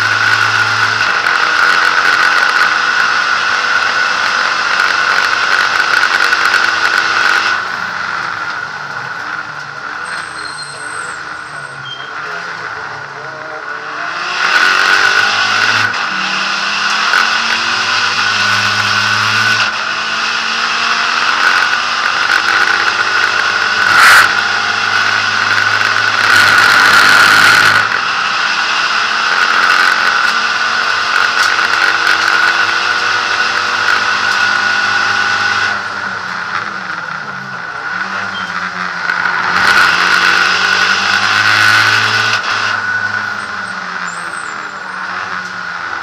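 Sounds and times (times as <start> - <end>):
race car engine running hard: 0.0 - 46.0.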